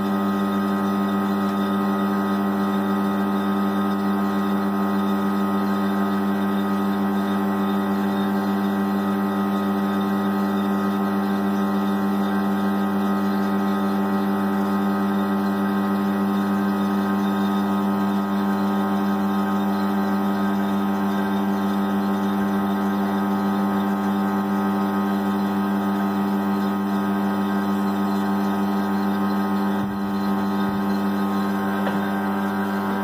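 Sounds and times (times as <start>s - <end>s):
vacuum pump humming: 0.0s - 33.0s.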